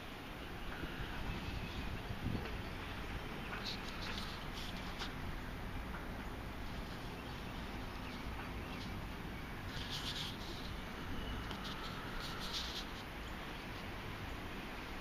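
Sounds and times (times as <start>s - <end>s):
wind rumble on microphone: 0.6s - 14.1s.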